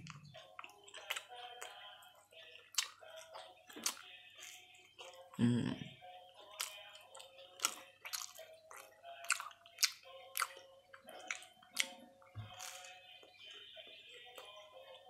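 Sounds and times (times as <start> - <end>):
crisp chewing of sandwich: 0.1 - 5.4, 6.4 - 13.2.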